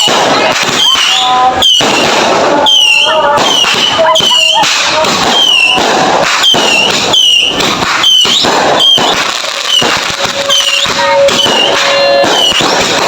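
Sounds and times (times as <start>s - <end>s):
fireworks crackling and popping: 0.0s - 13.0s
fireworks whistling: 0.0s - 13.0s.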